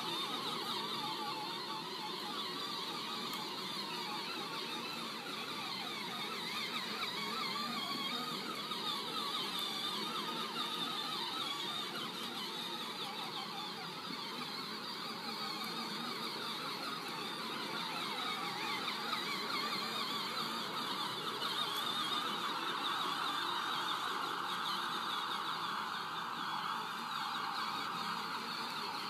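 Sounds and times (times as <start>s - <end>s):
electric motors whining: 0.0s - 29.0s.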